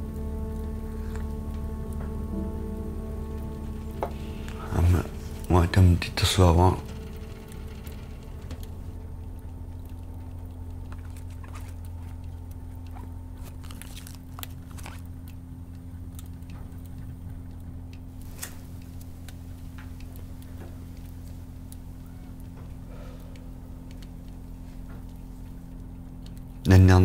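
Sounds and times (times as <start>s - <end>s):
steady low hum: 0.0s - 27.0s
faint clicks and ticks: 0.1s - 27.0s.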